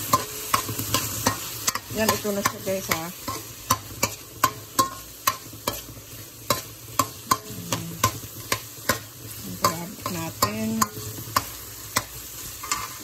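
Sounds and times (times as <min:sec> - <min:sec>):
frying sizzle: 0:00.0 - 0:13.0
metal spoon scraping frying pan: 0:00.0 - 0:13.0.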